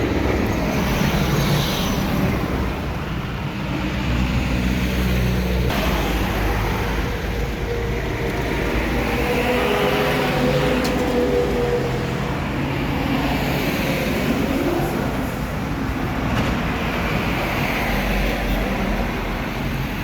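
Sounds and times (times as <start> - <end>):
tyre and road noise: 0.0 - 20.0.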